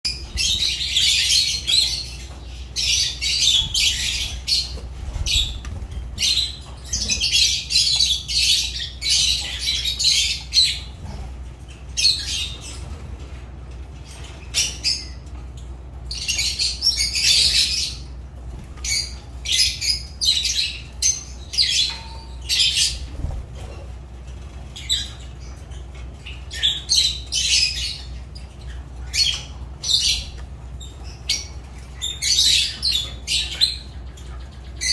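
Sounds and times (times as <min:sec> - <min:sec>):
lovebirds calling shrilly: 0:00.1 - 0:13.1, 0:14.0 - 0:34.9.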